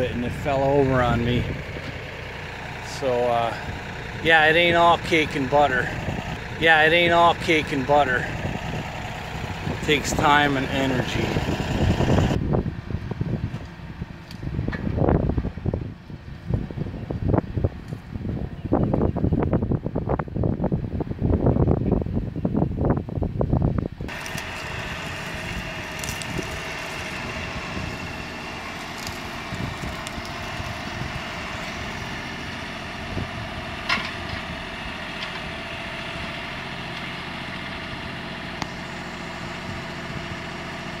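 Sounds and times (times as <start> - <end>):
tractor engine idling: 0.0 - 17.8, 24.0 - 41.0
wind buffeting microphone: 0.0 - 37.0, 38.7 - 40.6.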